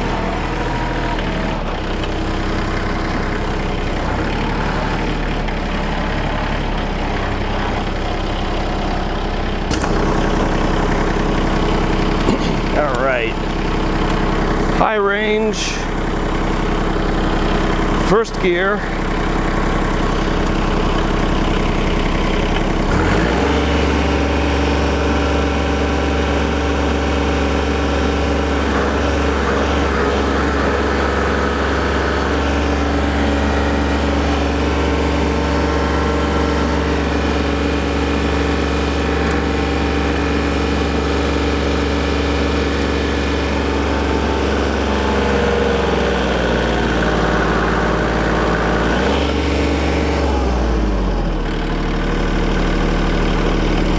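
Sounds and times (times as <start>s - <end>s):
tractor diesel engine straining: 0.0s - 53.9s.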